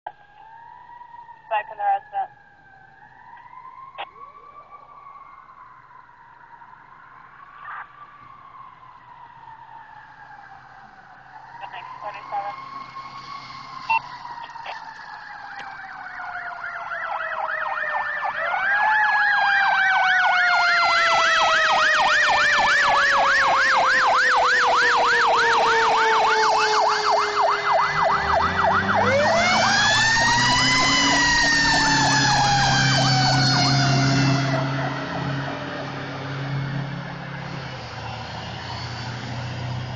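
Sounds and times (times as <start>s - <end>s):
electronic siren yelp: 0.1s - 39.9s
mechanical siren wailing: 0.1s - 39.9s.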